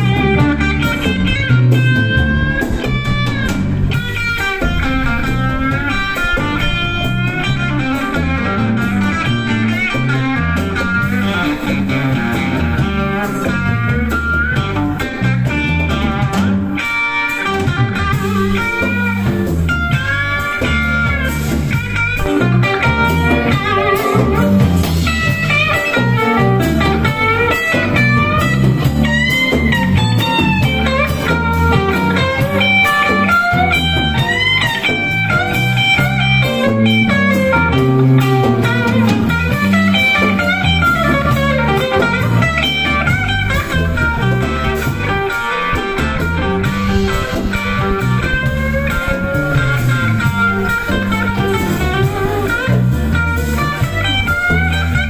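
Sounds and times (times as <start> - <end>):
blues band accompaniment: 0.0 - 55.0
electric guitar lead lines: 0.0 - 55.0.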